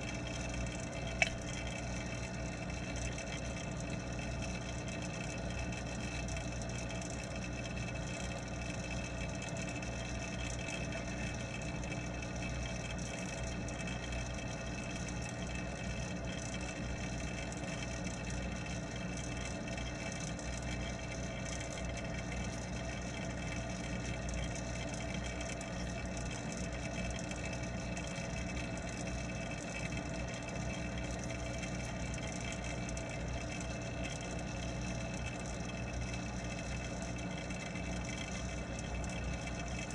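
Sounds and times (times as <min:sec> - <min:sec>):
water pump hum underwater: 0:00.0 - 0:39.9.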